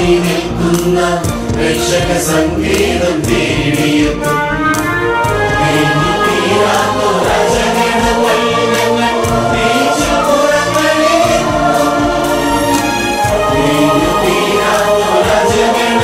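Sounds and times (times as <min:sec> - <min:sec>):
mixed choir singing in harmony: 0:00.0 - 0:16.0
musical accompaniment: 0:00.0 - 0:16.0.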